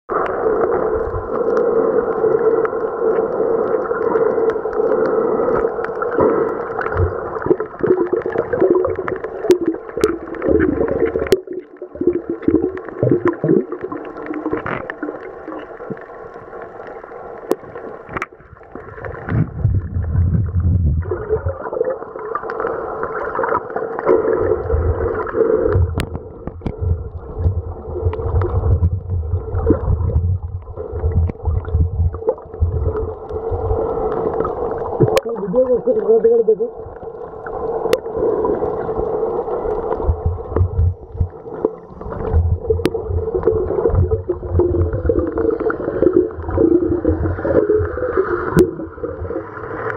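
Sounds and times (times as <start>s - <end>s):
deep underwater rumble: 0.1s - 49.9s
muffled underwater hum: 0.1s - 49.9s
water gurgling: 0.1s - 49.9s.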